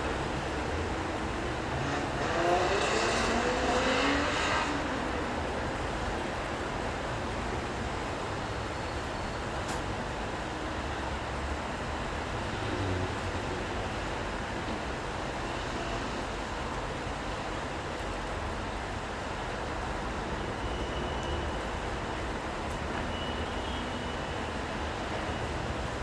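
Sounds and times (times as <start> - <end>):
rain on wet road: 0.0 - 8.8, 9.5 - 23.1.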